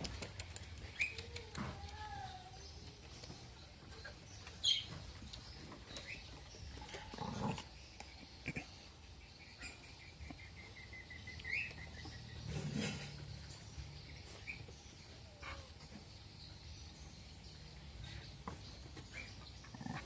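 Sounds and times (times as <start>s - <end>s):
small bird chirping: 0.1s - 20.0s.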